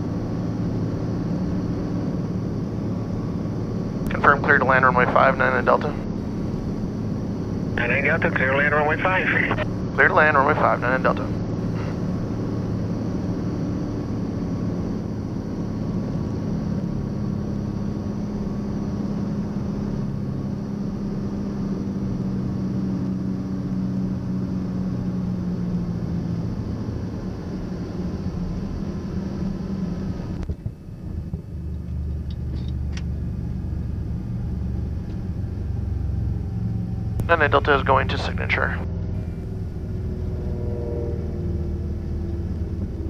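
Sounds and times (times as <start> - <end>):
aircraft engine and propeller drone: 0.0 - 43.0.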